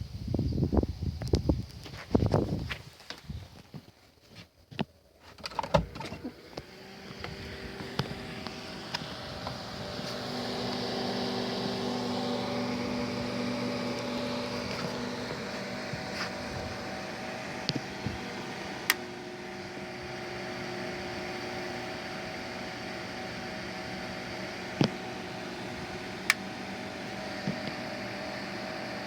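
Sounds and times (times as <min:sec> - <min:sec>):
electrical hum and buzz: 0:05.4 - 0:29.0.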